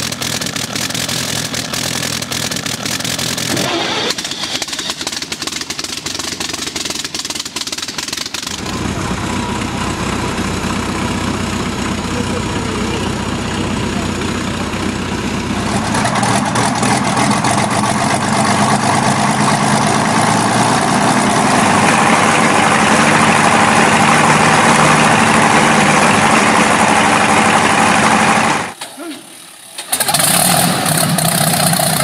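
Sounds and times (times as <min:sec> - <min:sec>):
aircraft engine running: 0:00.0 - 0:28.8.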